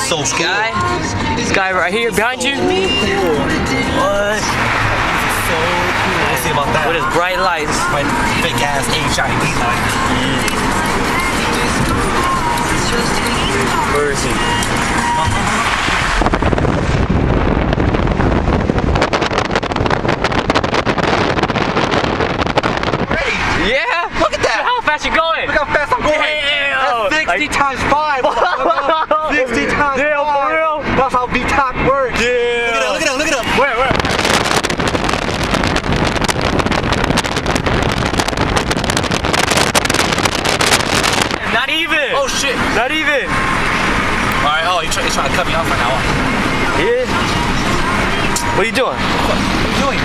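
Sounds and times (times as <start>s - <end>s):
car engine and road rumble: 0.0s - 50.0s
wind buffeting microphone: 0.6s - 24.3s, 33.2s - 50.0s.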